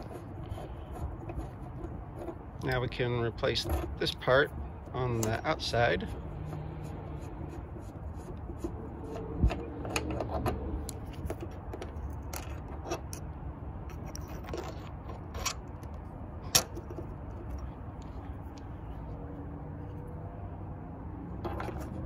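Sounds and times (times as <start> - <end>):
metallic clicks and scrapes: 0.0 - 18.7, 21.3 - 22.0.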